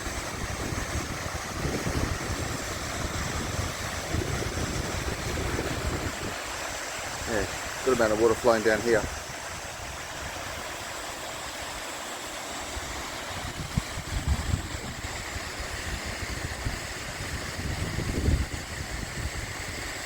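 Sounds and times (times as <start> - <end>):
wind buffeting microphone: 0.0 - 10.7, 12.7 - 20.0
waterfall rushing: 0.0 - 20.0.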